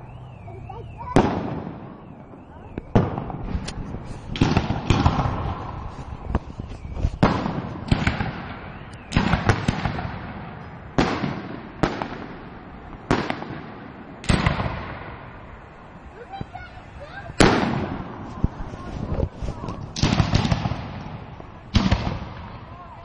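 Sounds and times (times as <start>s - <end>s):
fireworks bangs echoing: 0.0s - 23.0s.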